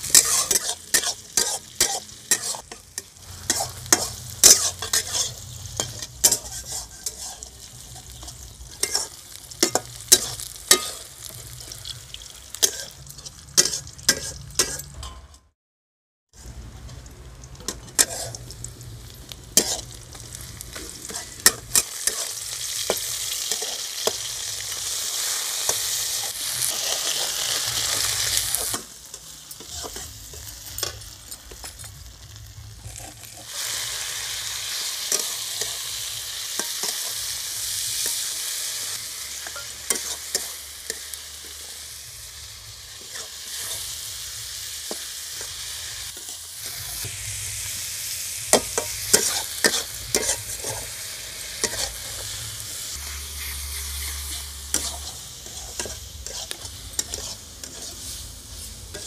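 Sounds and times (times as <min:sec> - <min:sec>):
food sizzling in hot oil: 0:00.0 - 0:15.1, 0:16.4 - 0:59.0
metal spatula scraping a pan: 0:00.0 - 0:15.4, 0:17.6 - 0:18.6, 0:19.4 - 0:47.1, 0:48.5 - 0:59.0.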